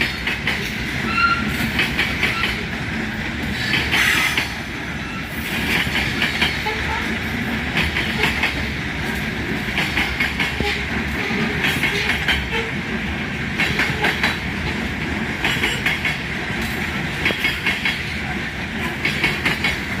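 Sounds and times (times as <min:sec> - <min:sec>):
train rumble: 0:00.0 - 0:20.0
wheels clacking over rail joints: 0:00.0 - 0:20.0.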